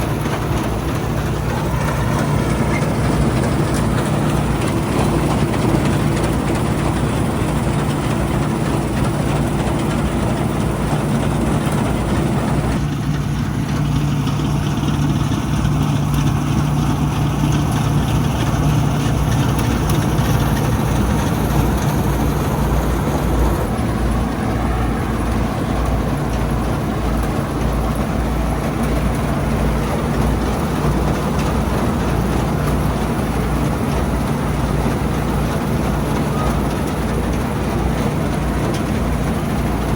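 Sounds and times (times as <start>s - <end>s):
combine harvester engine drone: 0.0s - 39.9s
machinery hum: 0.0s - 39.9s.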